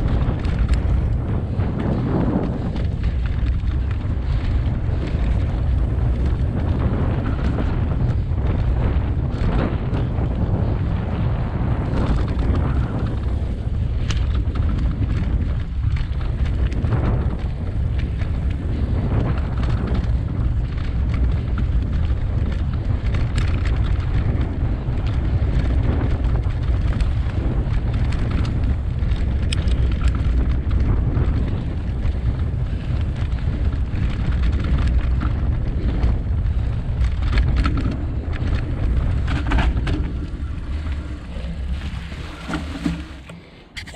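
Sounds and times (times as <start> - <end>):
bike rattles and clicks: 0.0 - 43.9
bike tyre noise: 0.0 - 43.9
wind buffeting microphone: 0.0 - 43.9.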